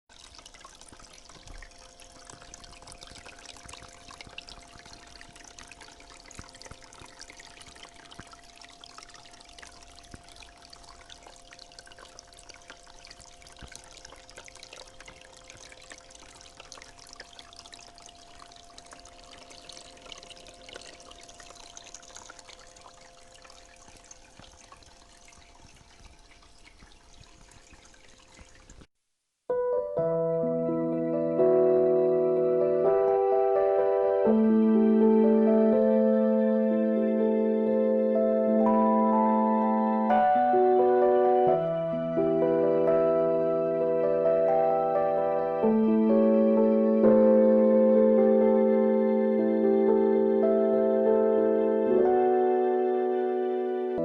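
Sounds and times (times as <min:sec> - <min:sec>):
fountain water trickling: 0:00.1 - 0:28.9, 0:30.2 - 0:54.0
faint steady hum: 0:00.1 - 0:54.0.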